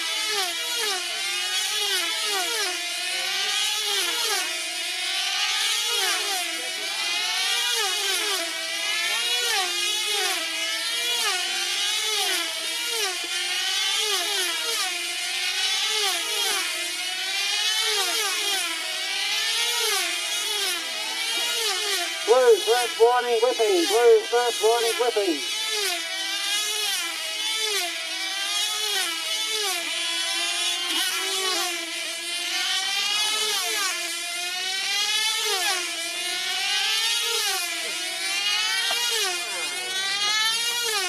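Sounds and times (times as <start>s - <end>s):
model aircraft engines circling: 0.1s - 41.0s.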